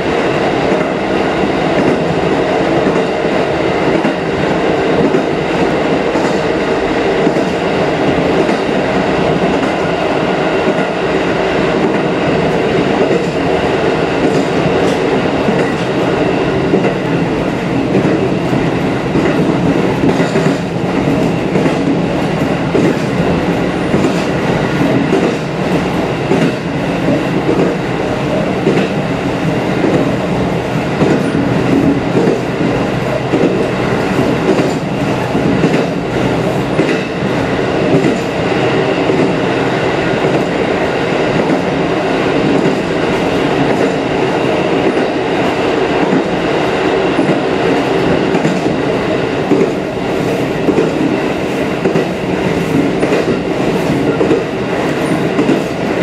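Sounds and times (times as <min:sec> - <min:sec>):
train wheels rolling on rails: 0:00.0 - 0:56.0
rail joint clicks: 0:00.1 - 0:56.0.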